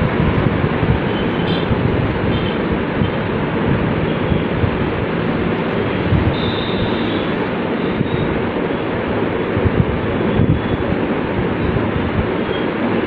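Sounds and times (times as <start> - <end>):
loud rushing noise: 0.0 - 13.0.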